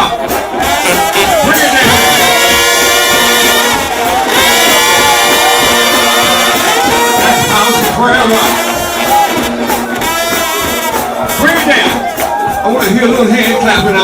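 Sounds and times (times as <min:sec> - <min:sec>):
congregation crowd noise: 0:00.0 - 0:14.0
trombone band playing a hymn: 0:00.0 - 0:14.0.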